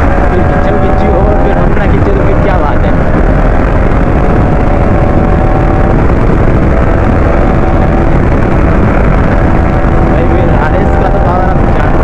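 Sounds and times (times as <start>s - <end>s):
motorcycle engine pulling hard: 0.0s - 12.0s
wind rush over microphone: 0.0s - 12.0s.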